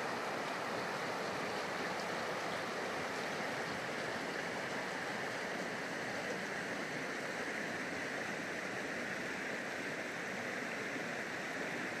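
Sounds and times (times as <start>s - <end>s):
creek water rushing over stones: 0.0s - 12.0s.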